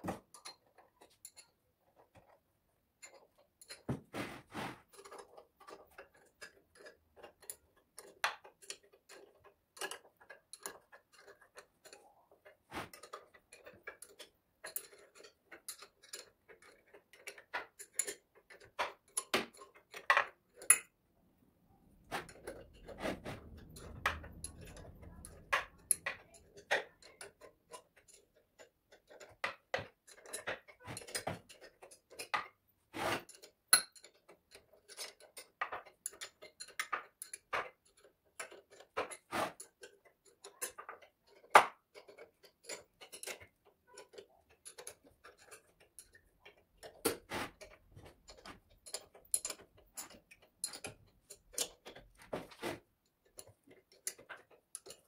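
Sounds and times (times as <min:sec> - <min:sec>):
metallic clicks and taps of tools: 0:00.0 - 0:03.9, 0:04.9 - 0:20.9, 0:23.5 - 0:32.6, 0:33.2 - 0:55.0.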